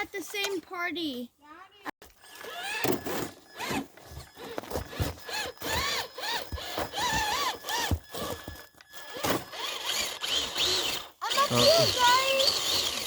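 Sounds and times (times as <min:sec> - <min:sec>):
electric motor and gears whining: 0:02.0 - 0:13.0.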